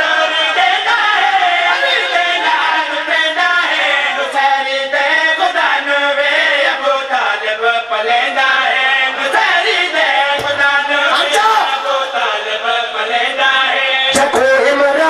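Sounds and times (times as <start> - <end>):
men chanting into a microphone: 0.0 - 15.0.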